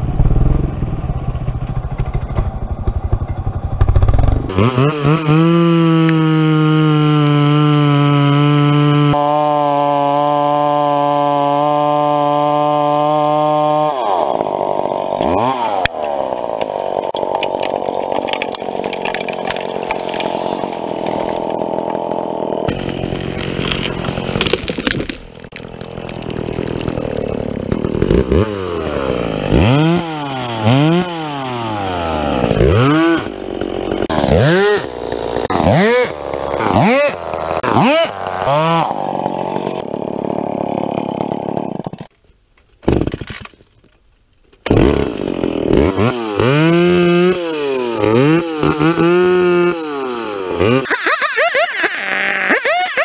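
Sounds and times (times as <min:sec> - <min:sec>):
chainsaw cutting tree trunk: 0:04.5 - 0:42.1, 0:44.7 - 0:53.0.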